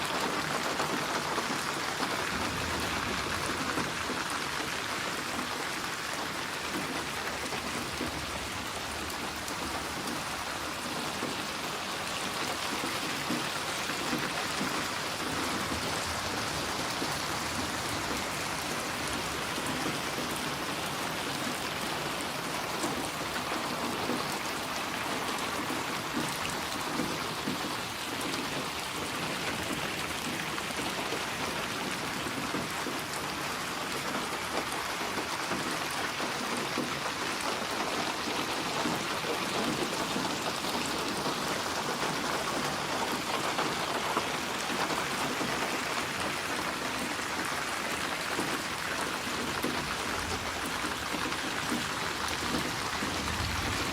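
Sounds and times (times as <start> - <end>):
steady rain patter: 0.0 - 53.9.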